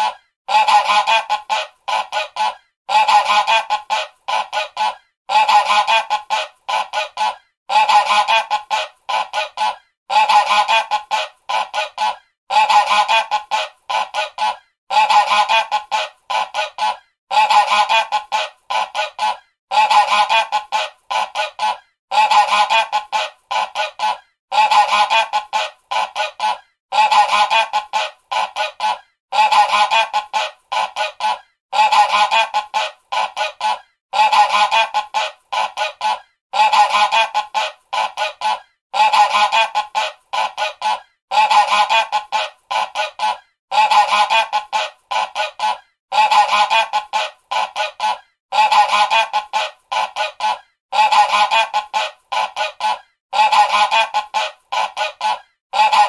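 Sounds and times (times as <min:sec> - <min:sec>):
goose honking: 0:00.0 - 0:56.0.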